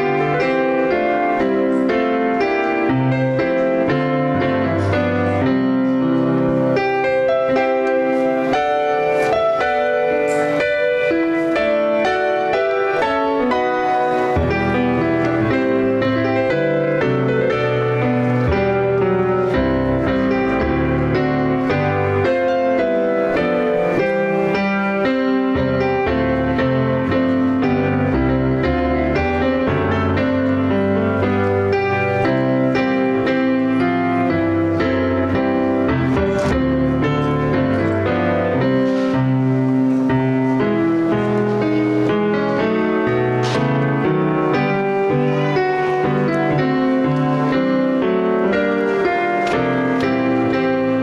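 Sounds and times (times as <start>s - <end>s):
slow keyboard chords: 0.0s - 51.0s.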